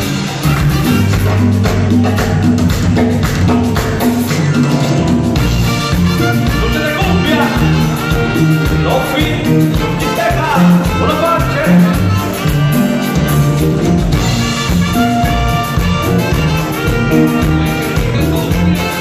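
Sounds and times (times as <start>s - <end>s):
trumpet: 0.0s - 1.8s, 5.4s - 19.0s
saxophone: 0.0s - 1.9s, 5.4s - 19.0s
drums: 0.0s - 19.0s
electric bass: 0.0s - 19.0s.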